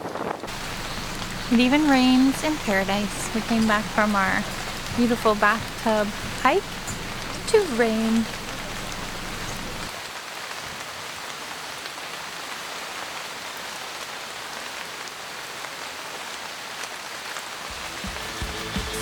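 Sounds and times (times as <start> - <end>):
rain falling steadily: 0.0 - 19.0.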